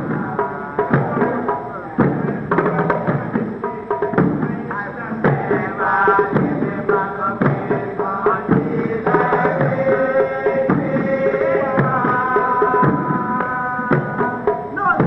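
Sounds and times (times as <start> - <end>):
drums beating steady rhythm: 0.0 - 15.0.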